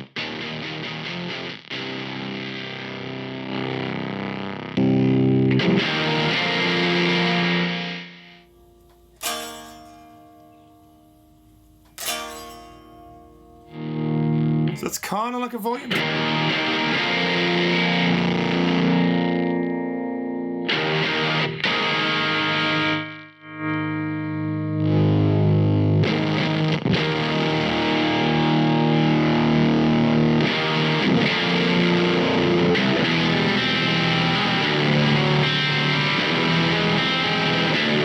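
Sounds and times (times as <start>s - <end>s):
distorted electric guitar chords: 0.0s - 14.8s, 15.9s - 38.0s.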